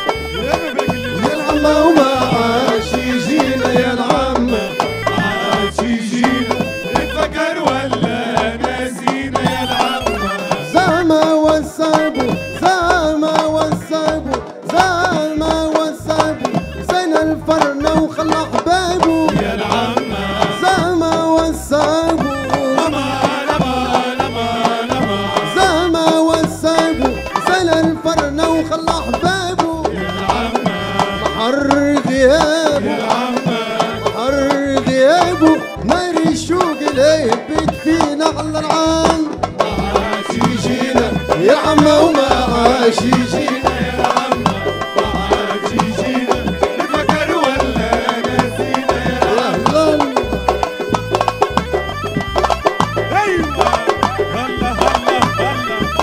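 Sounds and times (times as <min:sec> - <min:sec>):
man singing: 0:00.0 - 0:51.0, 0:53.0 - 0:56.0
frame drums and hand drums: 0:00.0 - 0:56.0.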